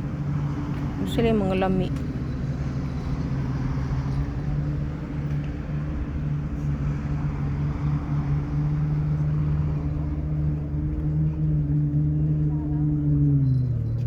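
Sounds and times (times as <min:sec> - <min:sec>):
engine humming steadily: 0:00.0 - 0:14.0.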